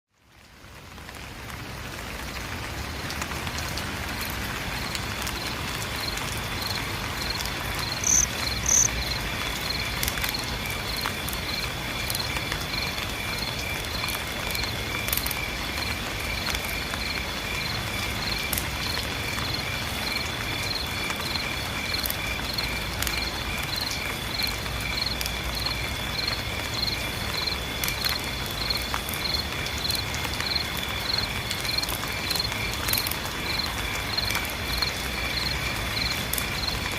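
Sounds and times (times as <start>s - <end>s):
rain pattering: 0.1s - 36.9s
insects chirping: 4.2s - 36.9s.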